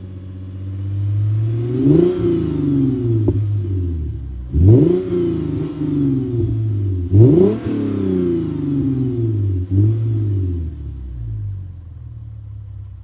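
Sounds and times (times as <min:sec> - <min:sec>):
car engine revving: 0:00.0 - 0:13.0
engine idling: 0:00.0 - 0:13.0.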